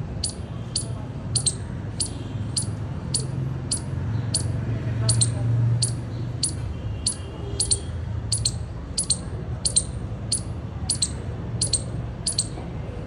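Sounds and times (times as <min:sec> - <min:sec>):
squirrel clicking: 0:00.2 - 0:12.6.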